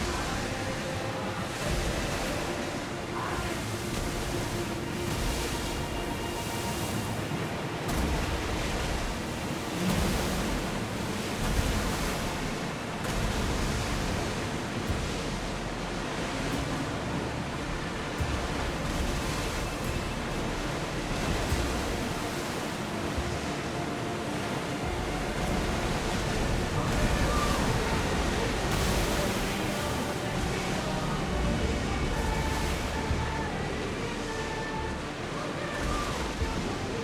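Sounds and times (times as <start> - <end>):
sea waves washing: 0.0 - 37.0
wind: 0.0 - 37.0.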